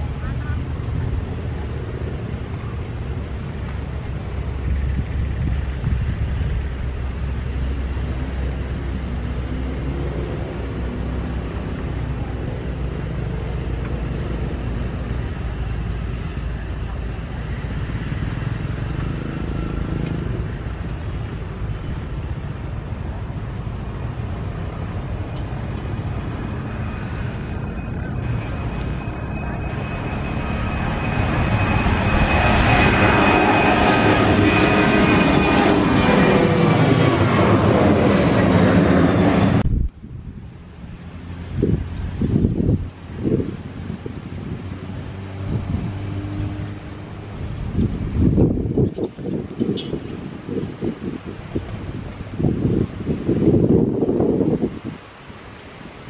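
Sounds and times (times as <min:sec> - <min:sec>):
high jet engine whine: 0:00.0 - 0:56.0
jet airliner taking off: 0:00.0 - 0:56.0.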